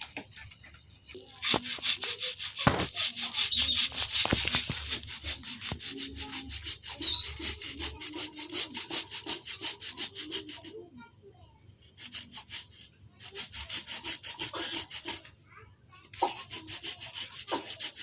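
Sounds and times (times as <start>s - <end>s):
coconut grating rasping strokes: 1.1s - 10.8s, 11.8s - 15.3s, 16.2s - 18.0s.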